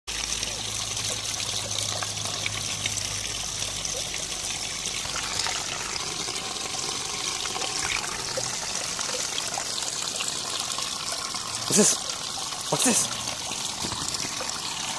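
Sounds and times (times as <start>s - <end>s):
waterfall splashing over rocks: 0.1s - 14.9s.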